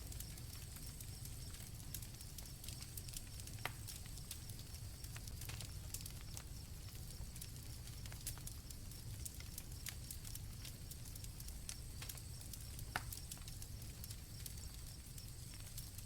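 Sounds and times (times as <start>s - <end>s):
campfire crackling and popping: 0.0s - 16.0s
crickets trilling: 0.0s - 16.0s.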